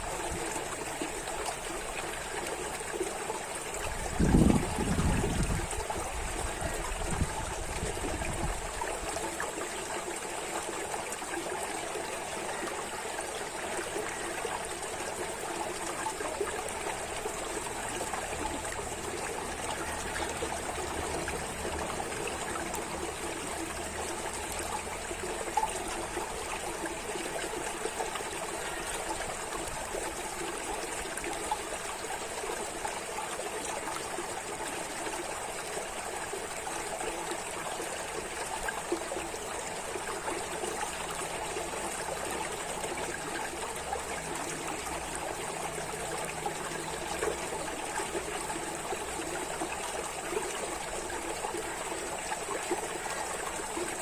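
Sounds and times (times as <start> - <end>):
water running and trickling: 0.0 - 54.0.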